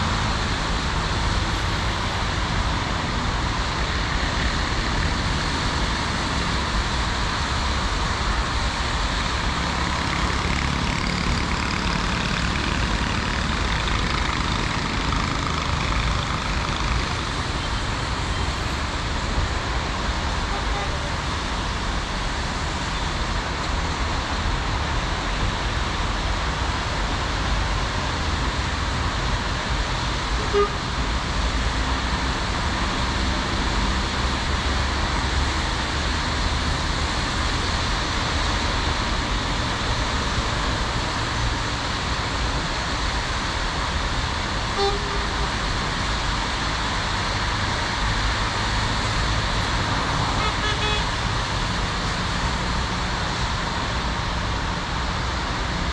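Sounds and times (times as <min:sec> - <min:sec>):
road traffic hum and hiss: 0:00.0 - 0:55.9.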